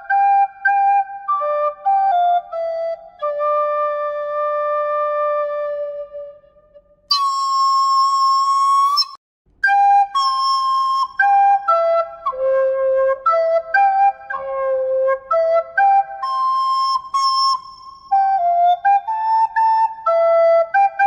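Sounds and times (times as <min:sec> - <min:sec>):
solo flute-like melody: 0:00.0 - 0:21.0.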